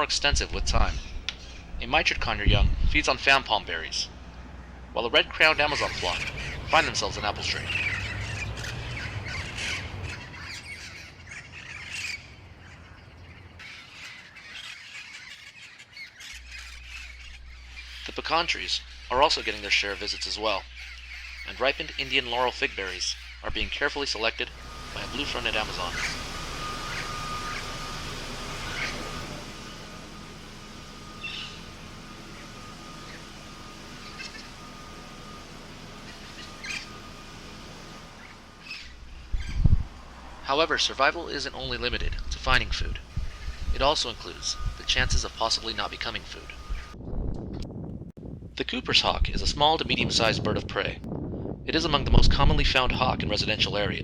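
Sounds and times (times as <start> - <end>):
birds chirping: 0.0 - 47.0
parrots squawking: 0.0 - 47.0
low background hum: 0.0 - 54.0.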